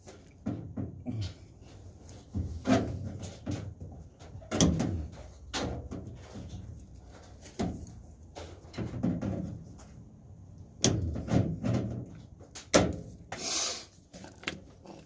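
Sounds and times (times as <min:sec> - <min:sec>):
knocks and clunks: 0:00.0 - 0:10.1, 0:10.8 - 0:13.3.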